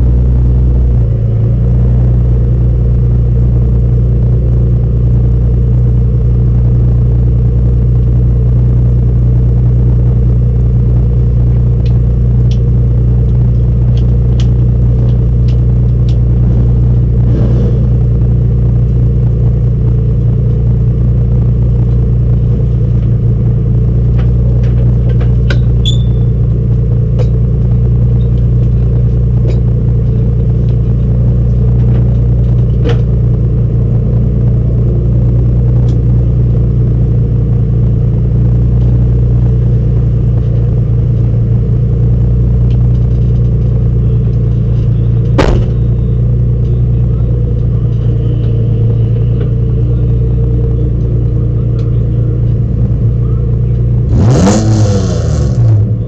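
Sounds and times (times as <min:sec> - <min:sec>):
race car engine idling: 0:00.0 - 0:56.0.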